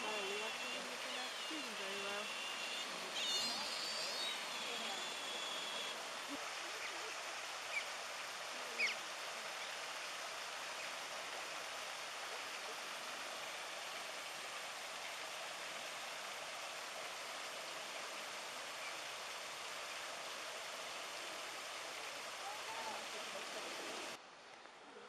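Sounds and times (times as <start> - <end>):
waterfall rushing: 0.0 - 24.2.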